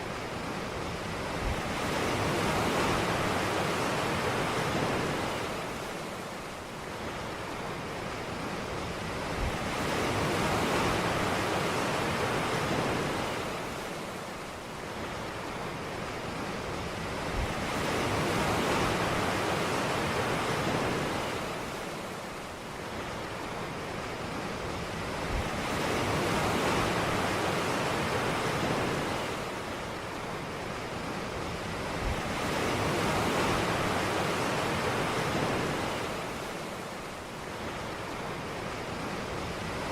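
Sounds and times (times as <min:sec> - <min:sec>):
ocean waves on a beach: 0:00.0 - 0:39.9.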